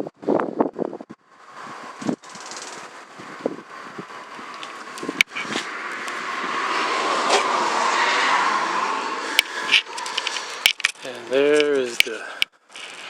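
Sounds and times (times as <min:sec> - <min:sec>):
vehicle passing by: 0:01.1 - 0:12.4.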